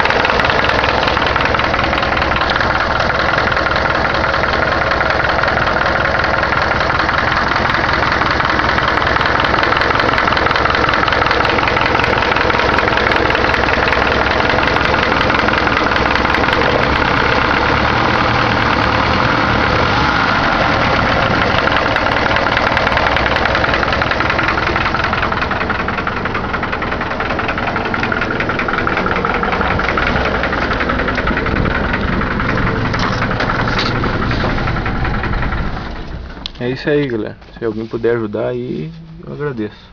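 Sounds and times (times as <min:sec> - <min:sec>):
car engine idling: 0:00.0 - 0:39.9
fast even engine ticking: 0:00.0 - 0:39.9.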